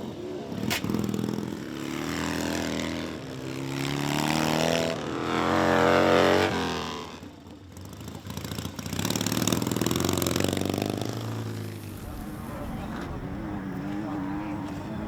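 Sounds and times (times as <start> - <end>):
motorcycle engines revving hard: 0.0 - 15.0.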